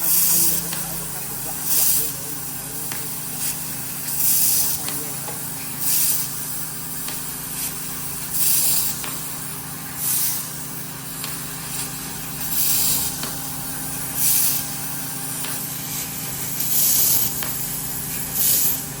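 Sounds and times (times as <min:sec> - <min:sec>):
hissing assist gas bursts: 0:00.0 - 0:19.0
laser cutting machine hum: 0:00.0 - 0:19.0.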